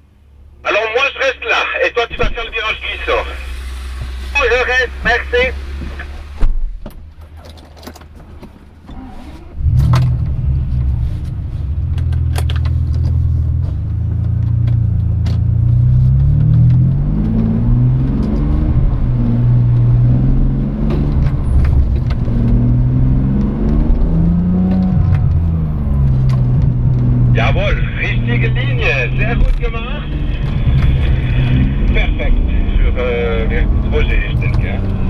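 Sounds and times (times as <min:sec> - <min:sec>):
car engine accelerating: 0:01.4 - 0:35.0.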